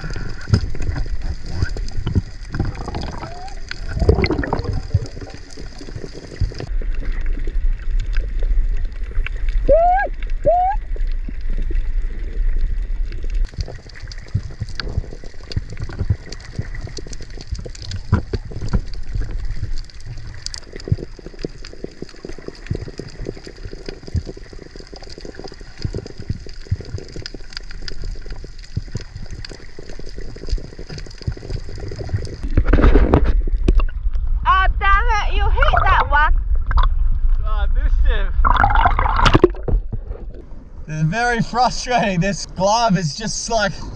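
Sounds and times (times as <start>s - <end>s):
underwater clicks and crackles: 0.0s - 37.5s, 38.4s - 43.7s
muffled underwater rumble: 0.0s - 42.2s.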